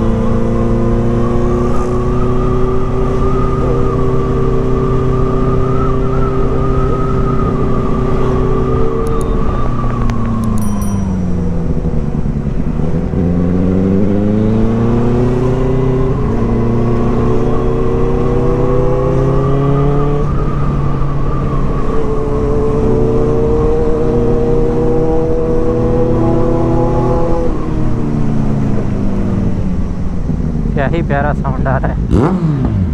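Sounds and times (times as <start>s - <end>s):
motorcycle engine accelerating: 0.0s - 31.2s, 31.9s - 32.9s.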